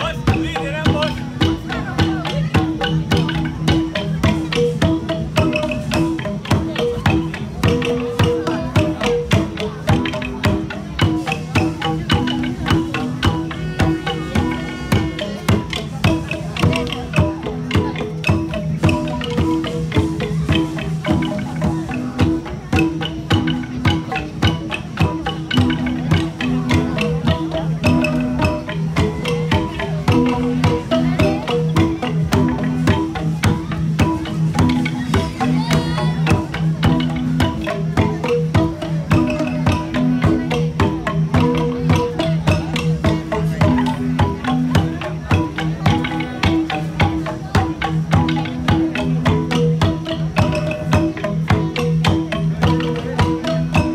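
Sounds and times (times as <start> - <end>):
gongs struck in steady beat: 0.0 - 53.9.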